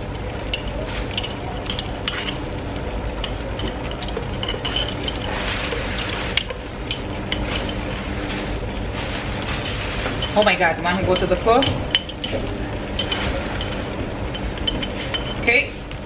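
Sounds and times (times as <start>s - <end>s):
sauce sizzling: 0.0s - 16.0s
utensil scraping in frying pan: 0.4s - 16.0s.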